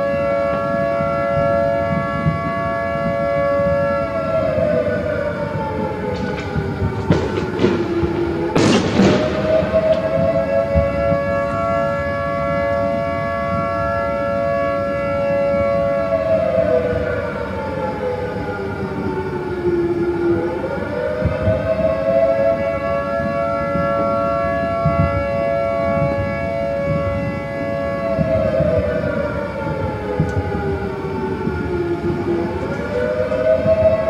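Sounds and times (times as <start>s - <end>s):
two-tone air raid siren: 0.0s - 34.0s.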